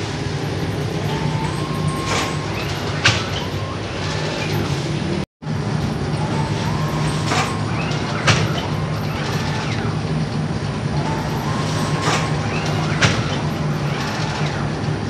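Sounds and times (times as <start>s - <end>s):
machinery mechanical hum: 0.0s - 15.0s.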